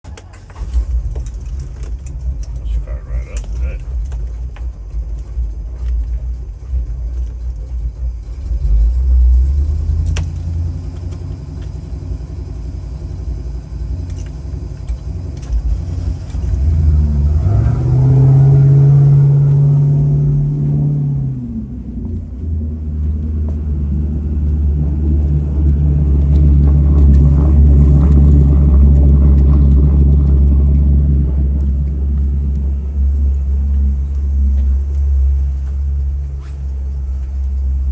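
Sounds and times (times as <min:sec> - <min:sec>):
boat engine rumbling: 0:00.0 - 0:37.9.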